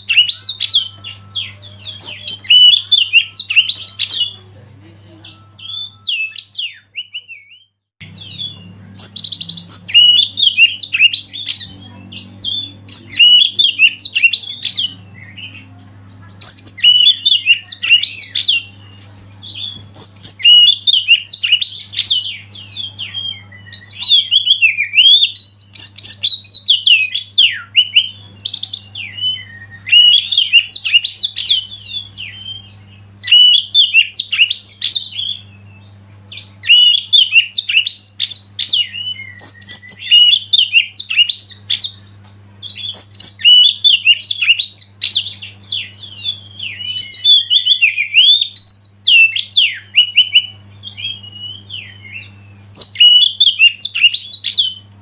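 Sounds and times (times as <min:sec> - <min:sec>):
bird singing whistled notes: 0:00.0 - 0:04.4, 0:05.2 - 0:54.8
low steady hum: 0:08.0 - 0:55.0.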